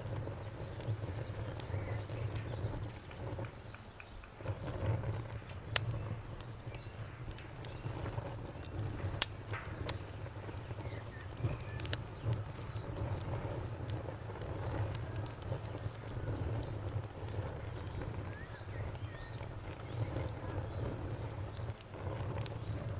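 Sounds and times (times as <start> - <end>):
campfire crackling and popping: 0.0 - 22.9
crickets chirping: 0.0 - 22.9.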